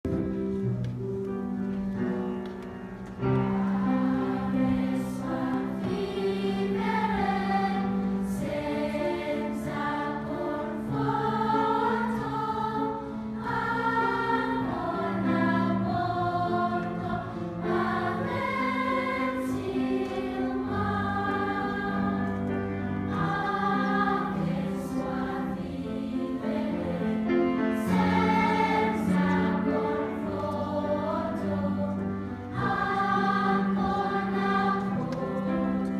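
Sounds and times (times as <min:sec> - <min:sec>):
children's choir singing: 0:03.2 - 0:35.9.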